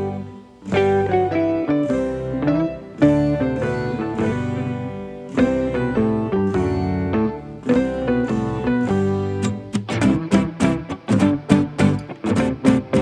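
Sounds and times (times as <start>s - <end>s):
plucked guitar-like instrumental music: 0.0s - 13.0s.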